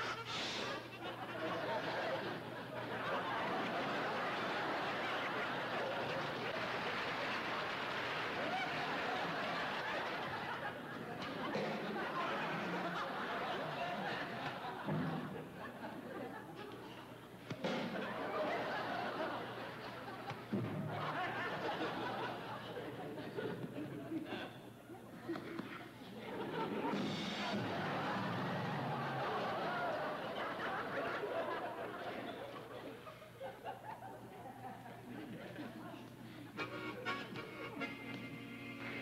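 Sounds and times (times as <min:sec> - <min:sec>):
audience laughing: 0:00.0 - 0:39.0.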